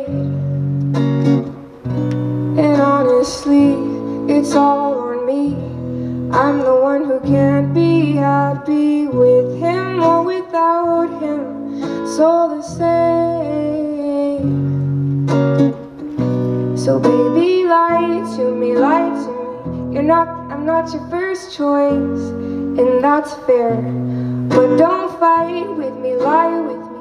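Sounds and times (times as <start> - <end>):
woman singing: 0.0 - 0.6, 2.5 - 15.1, 16.7 - 27.0
acoustic guitar strumming: 0.0 - 27.0.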